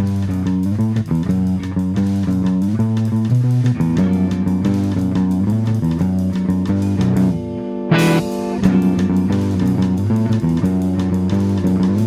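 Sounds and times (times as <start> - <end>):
fast drum kit hits: 0.0 - 12.0
guitar riff: 0.0 - 12.0.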